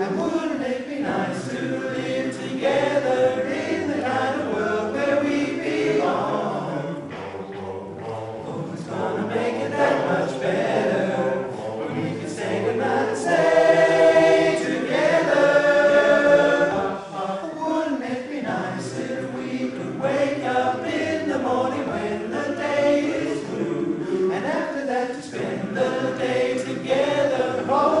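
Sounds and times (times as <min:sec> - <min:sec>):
men's chorus singing a cappella: 0:00.0 - 0:28.0.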